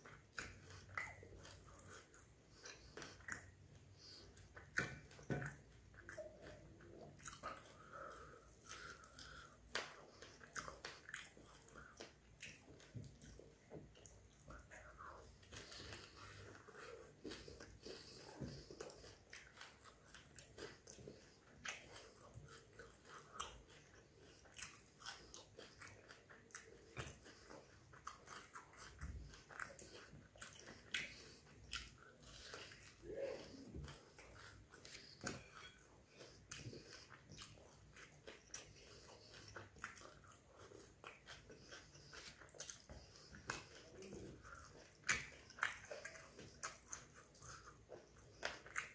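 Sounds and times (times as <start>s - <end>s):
person chewing crisp food: 0.0s - 48.9s.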